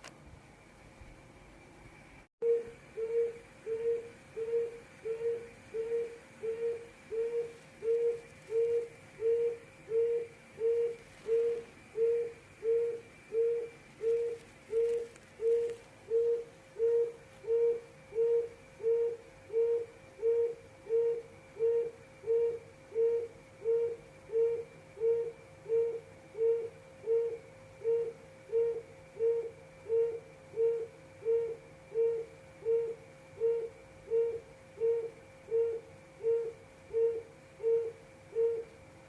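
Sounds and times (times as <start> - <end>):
quail hooting call: 2.4 - 38.8.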